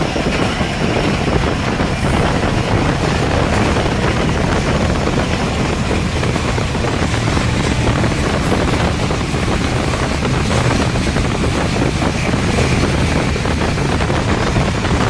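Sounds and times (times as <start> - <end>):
moving train rumble: 0.0 - 15.0
wind buffeting microphone: 0.0 - 15.0.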